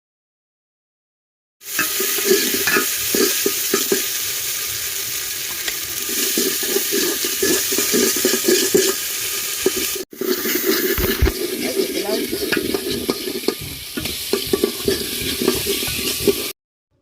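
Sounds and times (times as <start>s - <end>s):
masala sizzling in hot oil: 1.6s - 16.6s
stirring in a pot: 1.6s - 16.6s.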